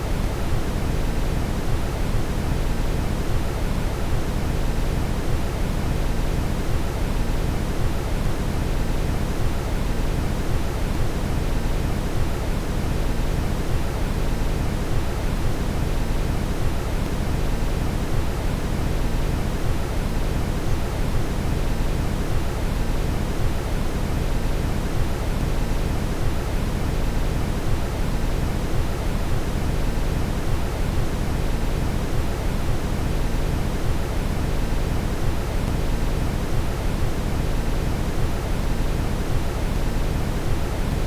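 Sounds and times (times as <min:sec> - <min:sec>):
steady brown noise hiss: 0:00.0 - 0:41.0.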